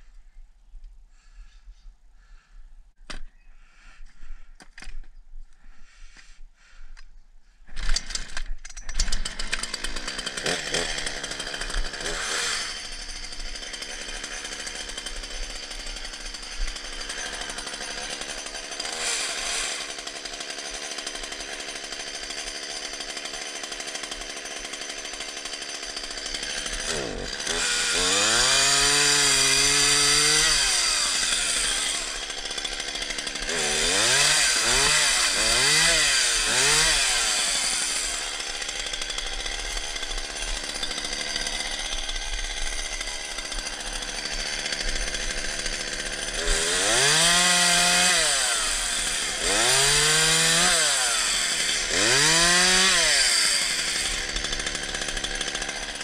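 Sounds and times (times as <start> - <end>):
chainsaw running and revving: 9.0 - 56.0.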